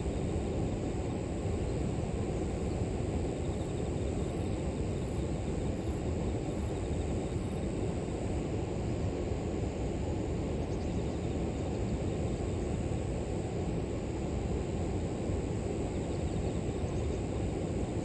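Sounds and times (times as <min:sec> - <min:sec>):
faint insects chirping: 0:00.0 - 0:08.5, 0:10.6 - 0:18.0.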